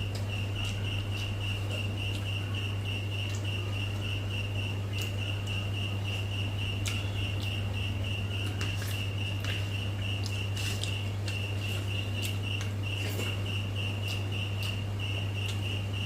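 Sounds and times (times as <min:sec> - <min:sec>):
cricket chirping: 0:00.0 - 0:16.0
steady low hum: 0:00.0 - 0:16.0.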